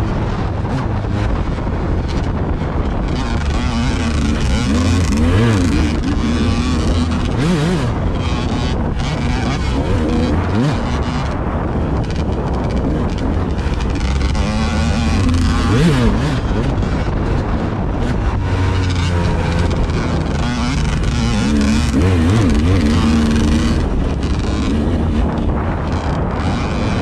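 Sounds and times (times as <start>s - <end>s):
vehicle engine running: 0.0s - 27.0s
wind noise on microphone: 0.0s - 27.0s.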